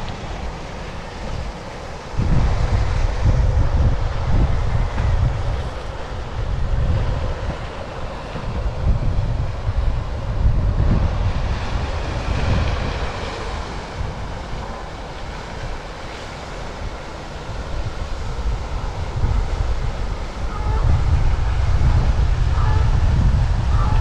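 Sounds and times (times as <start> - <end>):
water rushing: 0.0 - 24.0
wind buffeting microphone: 0.0 - 24.0.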